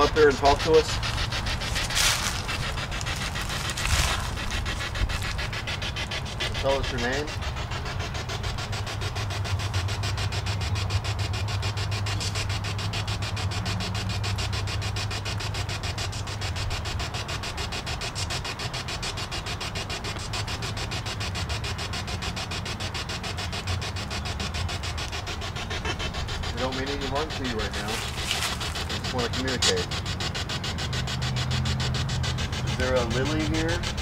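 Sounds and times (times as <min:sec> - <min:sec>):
pulsing radio static: 0:00.0 - 0:34.0
steady low hum: 0:00.0 - 0:34.0.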